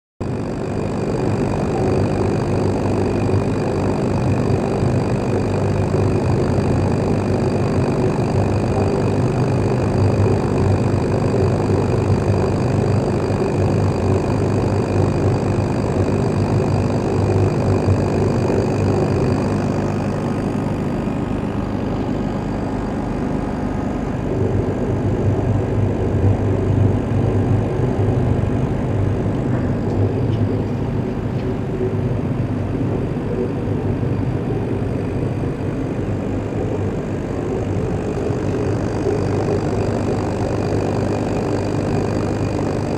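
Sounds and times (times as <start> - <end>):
laser cutting machine hum: 0.2 - 42.9
thin high whine: 0.2 - 42.9.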